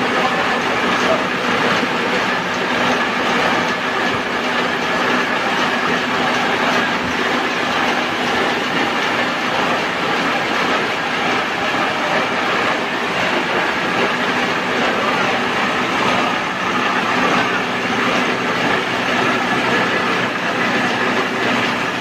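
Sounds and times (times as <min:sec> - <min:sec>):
machine clattering: 0:00.0 - 0:22.0.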